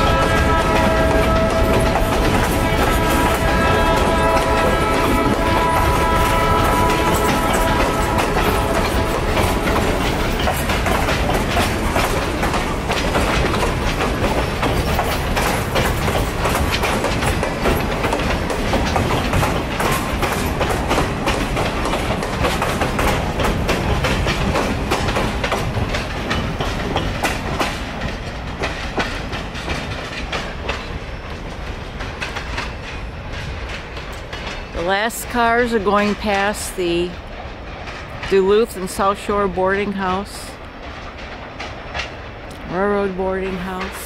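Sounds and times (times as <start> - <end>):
wheels clicking over track: 0.0 - 40.0
freight train rumble: 0.0 - 44.0.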